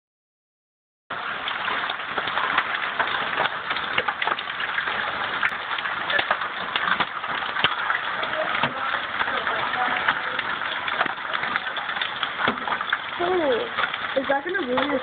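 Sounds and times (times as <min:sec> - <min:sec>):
hail clattering: 0:01.1 - 0:15.0
sharp hailstone strikes: 0:01.8 - 0:15.0.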